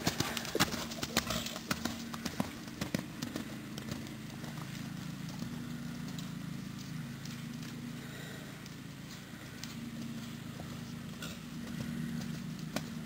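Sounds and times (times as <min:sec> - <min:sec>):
hoofbeats on sand: 0:00.0 - 0:13.0
steady low hum: 0:00.0 - 0:13.0.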